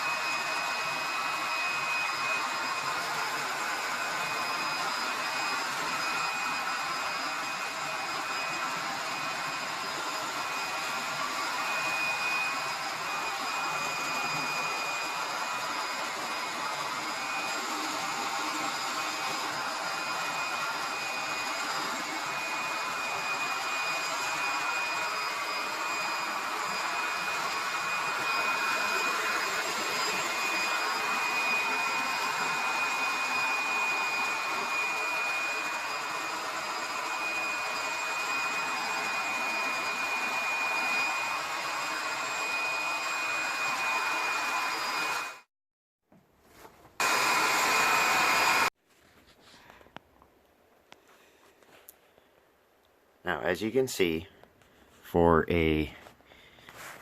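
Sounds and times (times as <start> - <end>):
electric blower motor whirring: 0.0 - 45.5, 47.0 - 48.7.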